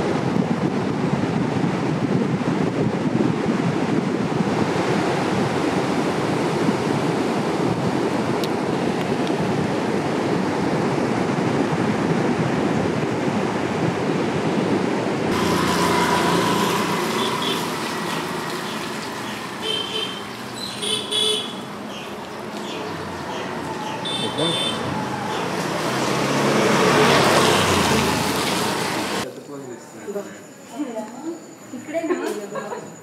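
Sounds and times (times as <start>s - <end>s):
loud rushing outdoor noise: 0.0s - 29.3s.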